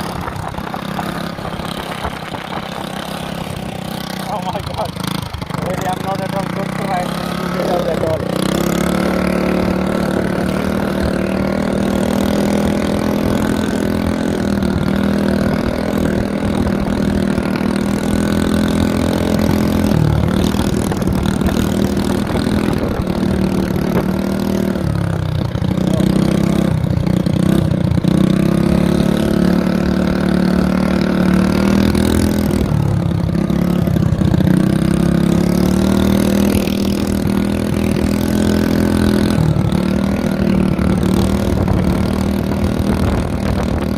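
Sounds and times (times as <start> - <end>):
mini bike engine running: 0.0 - 43.9.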